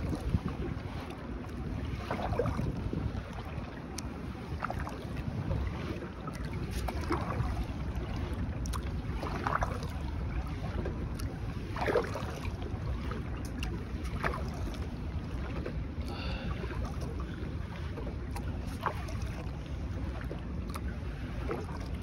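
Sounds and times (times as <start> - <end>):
wind on microphone: 0.0 - 20.5
kayak paddle splashing in water: 0.0 - 22.0.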